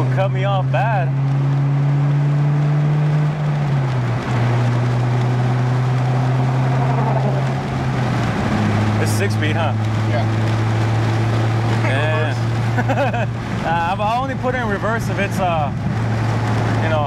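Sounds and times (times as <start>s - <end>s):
car engine droning: 0.0s - 17.0s
road and wind noise: 0.0s - 17.0s.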